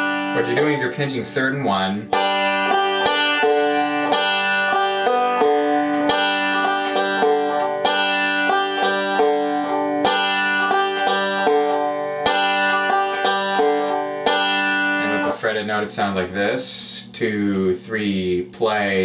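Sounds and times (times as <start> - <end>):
banjo picked slowly: 0.0 - 19.0.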